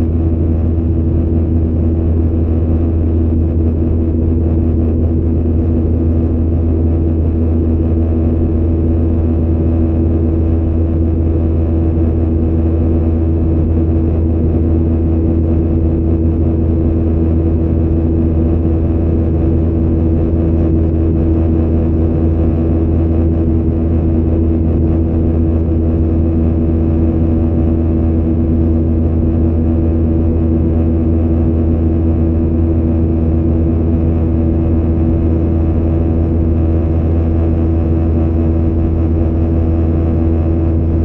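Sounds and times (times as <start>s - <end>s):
jet engine cabin roar: 0.0s - 41.0s.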